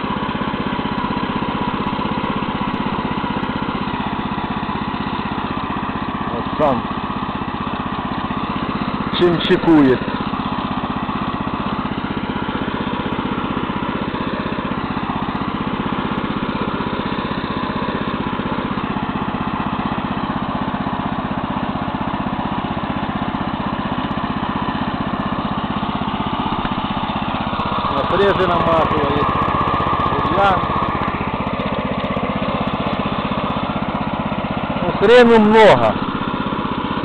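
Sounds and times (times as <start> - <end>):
tiller blades working soil: 0.0 - 37.0
tractor engine running: 0.0 - 37.0.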